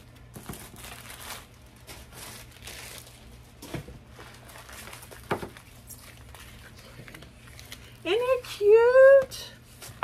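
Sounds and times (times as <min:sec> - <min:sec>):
plastic and paper wrapping rustling: 0:00.0 - 0:10.0.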